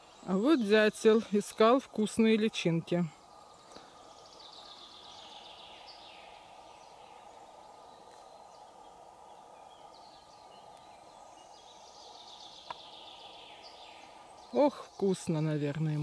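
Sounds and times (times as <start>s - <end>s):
faint background hiss: 0.0s - 16.0s
songbirds trilling: 0.0s - 16.0s.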